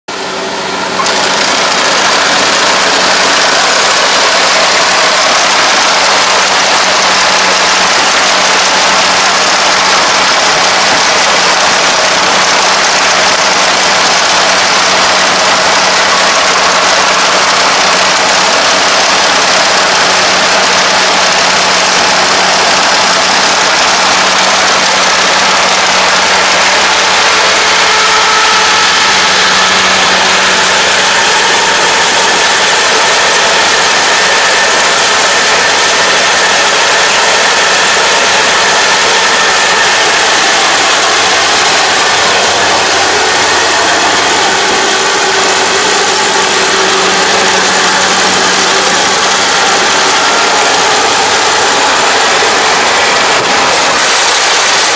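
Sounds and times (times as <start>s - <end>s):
combine harvester engine droning: 0.1s - 54.9s.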